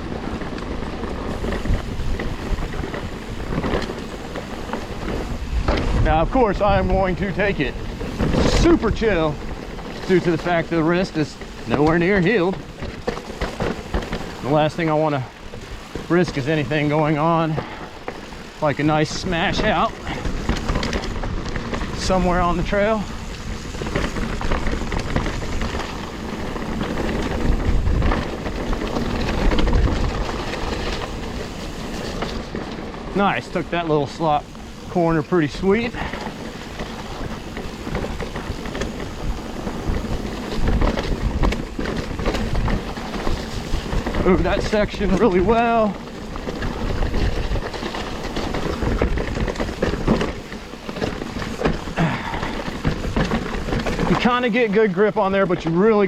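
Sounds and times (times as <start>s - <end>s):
bike and chain clattering: 0.0s - 56.0s
bike tyres rolling over dirt: 0.0s - 56.0s.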